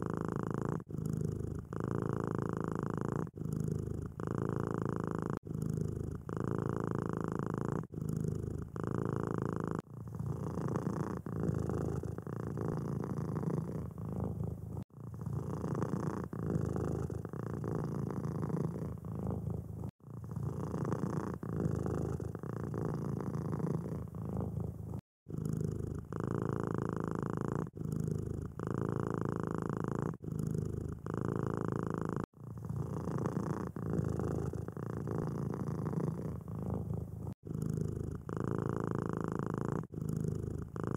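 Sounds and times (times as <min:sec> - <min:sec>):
cats purring: 0:00.0 - 0:40.9.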